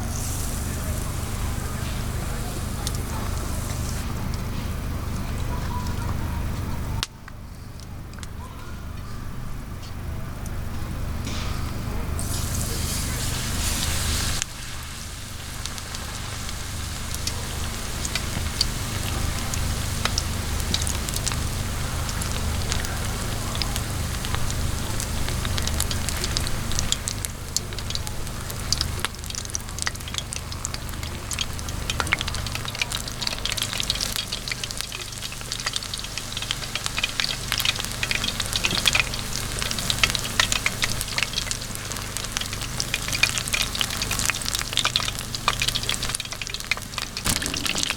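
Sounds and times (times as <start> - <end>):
food sizzling in a pan: 0.0 - 4.1, 12.2 - 47.9.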